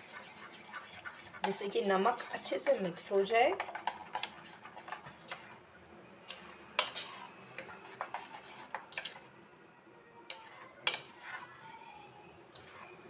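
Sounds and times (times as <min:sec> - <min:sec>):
utensil stirring thick batter: 0:00.0 - 0:09.3, 0:10.3 - 0:11.8, 0:12.5 - 0:13.0.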